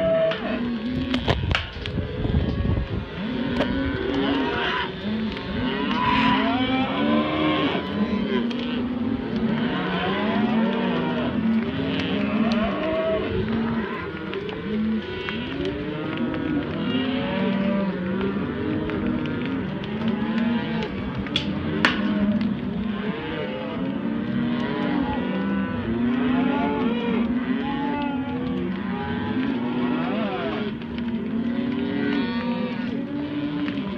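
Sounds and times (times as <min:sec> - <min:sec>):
cattle mooing and bellowing: 0:00.0 - 0:33.9.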